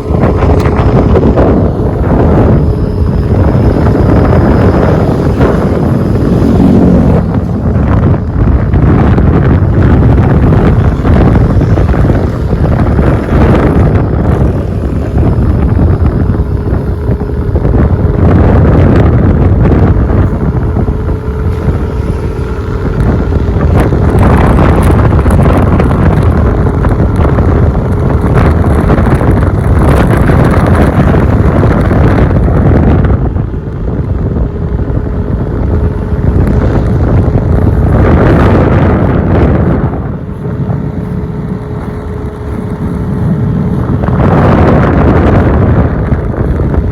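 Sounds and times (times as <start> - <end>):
road and engine noise: 0.0 - 46.9
wind buffeting microphone: 0.0 - 46.9.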